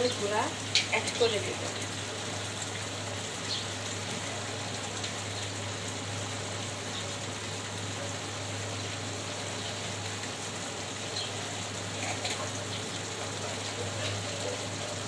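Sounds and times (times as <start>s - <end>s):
curry simmering and sizzling: 0.0s - 15.0s.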